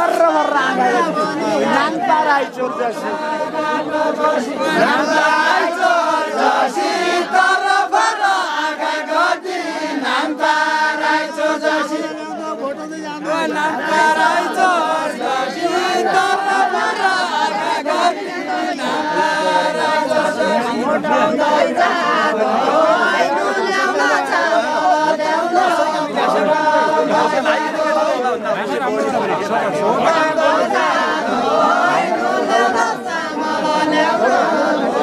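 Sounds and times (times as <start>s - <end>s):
group singing in chorus: 0.0s - 35.0s.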